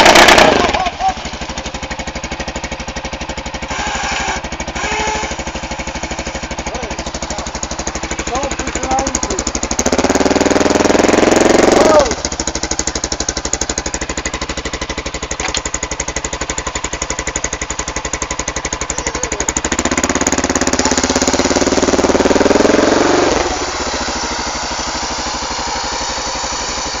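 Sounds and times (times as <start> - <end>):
atv engine idling and revving: 0.0 - 27.0.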